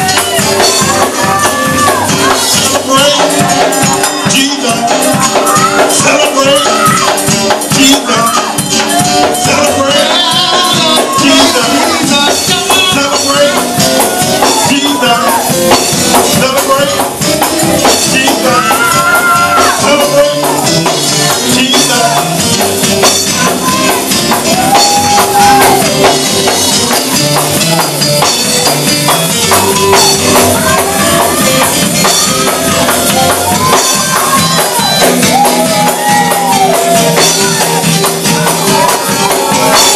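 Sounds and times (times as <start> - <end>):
fast driving church music: 0.0 - 39.9
voices shouting and singing: 0.0 - 39.9.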